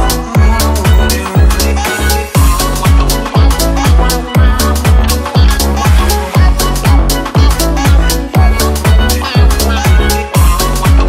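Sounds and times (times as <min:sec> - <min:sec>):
deep kick drum: 0:00.0 - 0:01.8, 0:02.4 - 0:11.0
electronic dance music: 0:00.0 - 0:11.0.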